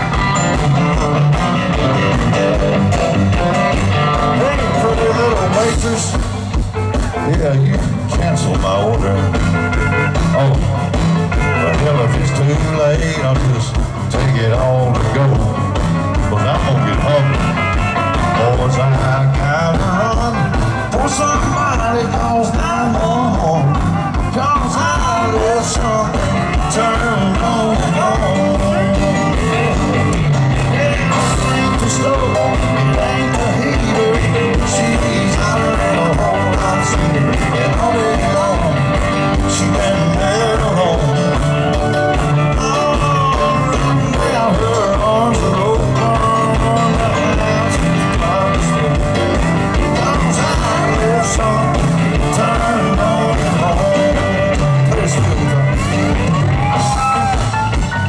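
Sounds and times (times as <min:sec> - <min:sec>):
bass guitar: 0:00.0 - 0:58.0
electric guitar lines: 0:00.0 - 0:58.0
steady drum beat: 0:00.0 - 0:58.0.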